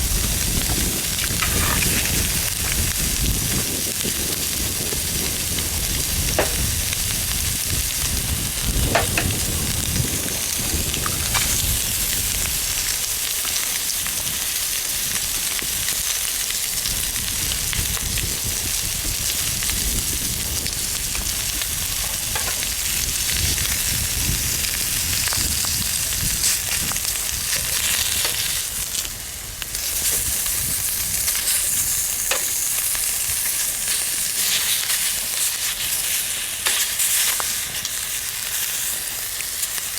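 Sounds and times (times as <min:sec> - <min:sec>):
bacon and eggs sizzling: 0:00.0 - 0:39.9.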